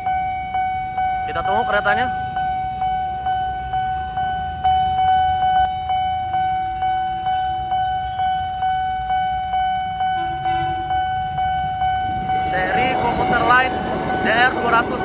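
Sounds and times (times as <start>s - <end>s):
level-crossing warning bell: 0.0s - 15.0s
motorcycles idling: 0.0s - 15.0s.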